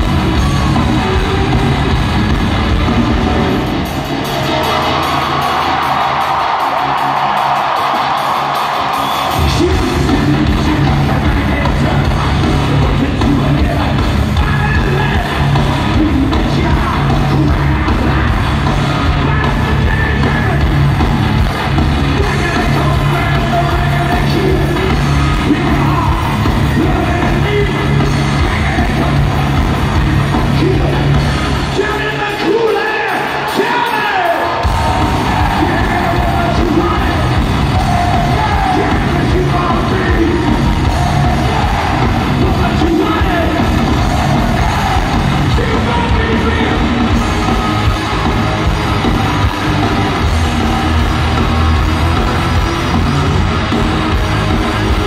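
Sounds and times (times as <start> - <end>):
live heavy metal band: 0.0 - 55.0
yelled vocals: 0.0 - 55.0.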